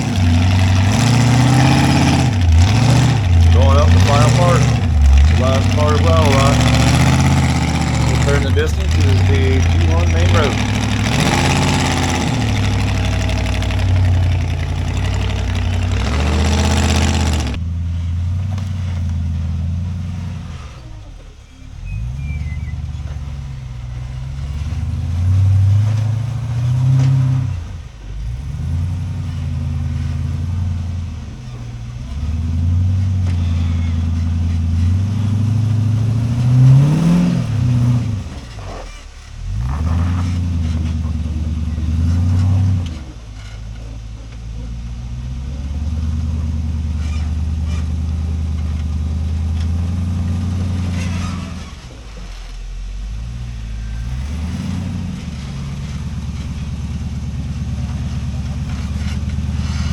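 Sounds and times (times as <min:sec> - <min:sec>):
engine running and revving: 0:00.0 - 0:59.9.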